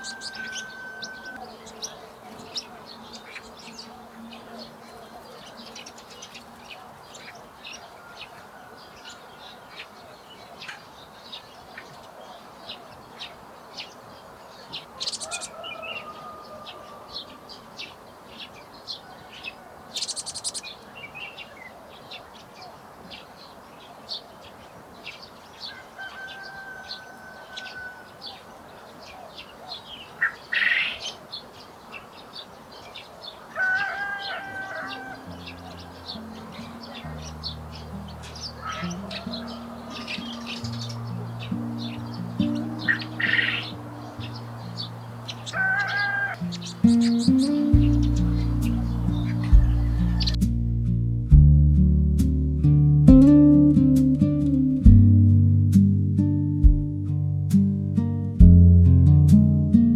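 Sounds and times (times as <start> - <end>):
small songbirds chirping: 0.0 - 51.4.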